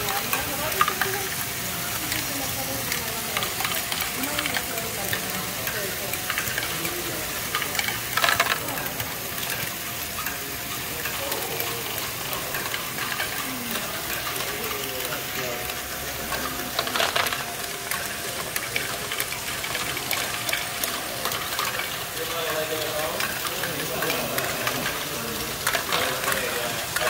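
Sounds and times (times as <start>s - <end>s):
plastic balls clattering: 0.0s - 27.0s.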